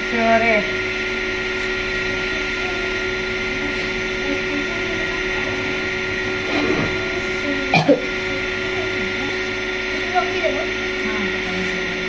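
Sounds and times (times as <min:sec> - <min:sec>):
machine motor droning: 0:00.0 - 0:12.0.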